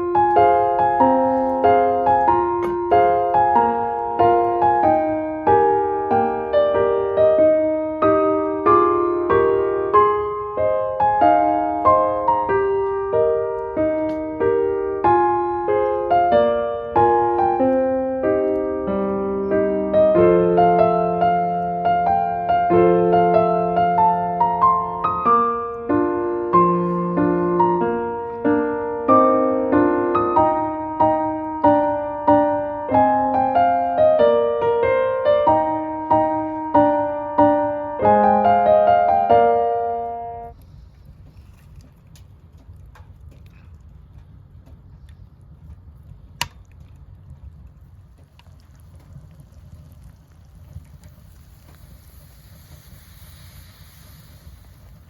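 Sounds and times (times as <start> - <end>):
slow piano melody: 0.0 - 47.7.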